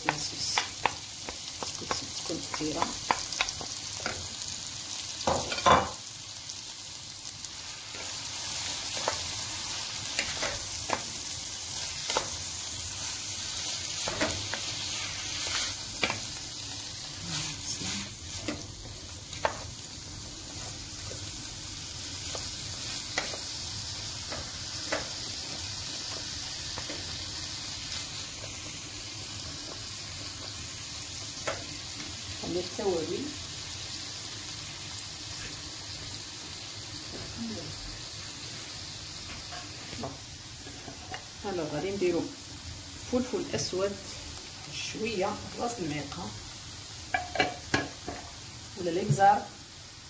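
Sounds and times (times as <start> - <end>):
onions sizzling in butter: 0.0 - 50.0.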